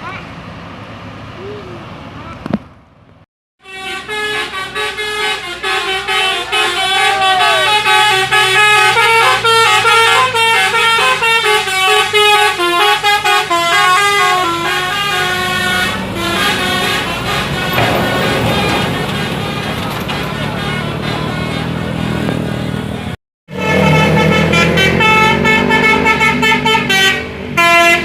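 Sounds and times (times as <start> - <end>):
bus engine running: 0.0 - 28.0
multi-tone bus horn melody: 3.6 - 28.0.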